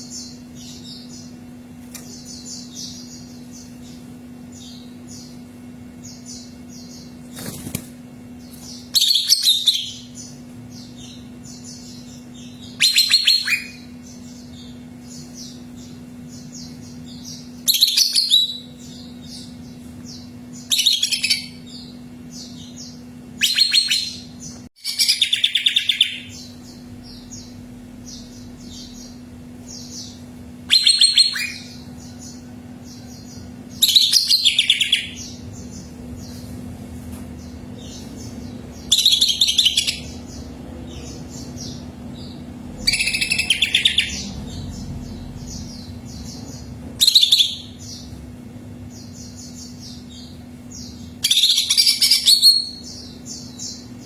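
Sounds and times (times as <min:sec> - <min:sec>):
bird singing rapid trills: 0:00.0 - 0:36.4, 0:37.4 - 0:54.0
low hum: 0:00.0 - 0:51.2.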